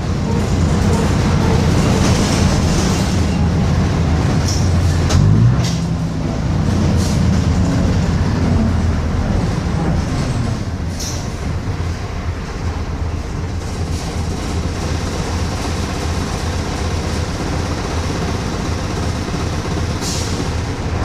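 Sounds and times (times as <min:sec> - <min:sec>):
bus body rattles: 0:00.0 - 0:21.0
bus diesel engine running: 0:00.0 - 0:21.0.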